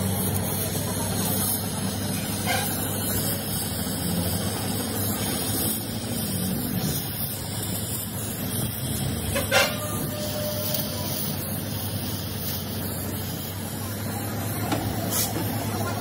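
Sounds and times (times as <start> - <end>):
gas torch flame roaring: 0.0 - 16.0.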